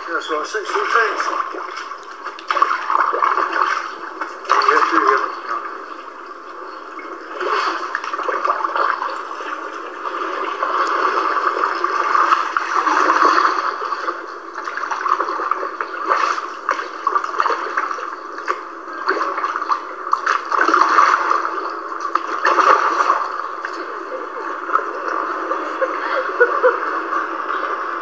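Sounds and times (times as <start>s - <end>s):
floodwater rushing and gurgling: 0.0s - 28.0s.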